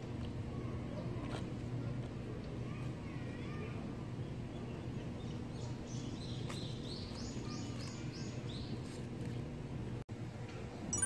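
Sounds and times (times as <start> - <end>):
low outdoor background noise: 0.0 - 11.0.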